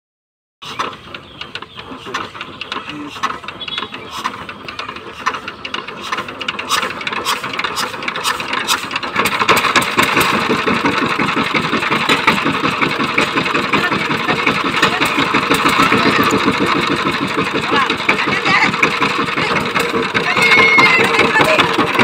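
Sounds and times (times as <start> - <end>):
power tiller engine running: 0.6 - 22.0.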